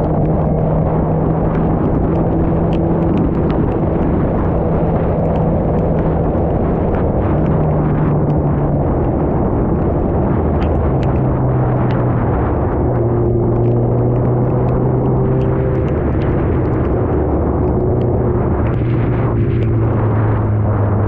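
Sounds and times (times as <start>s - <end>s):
motorcycle engine cruising: 0.0s - 21.0s
wind rush on microphone: 0.0s - 21.0s.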